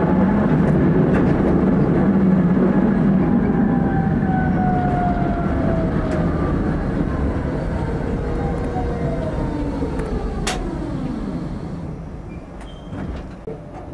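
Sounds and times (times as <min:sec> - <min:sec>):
tram motor whine: 0:00.0 - 0:13.5
tram rumbling on rails: 0:00.0 - 0:13.9.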